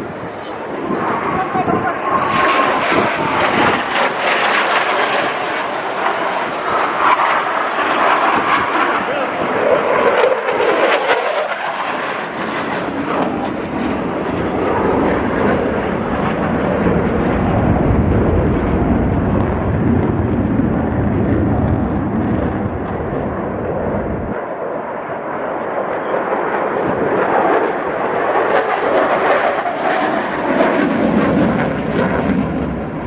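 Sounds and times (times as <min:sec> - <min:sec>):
jet roar flying past: 0:00.0 - 0:33.0.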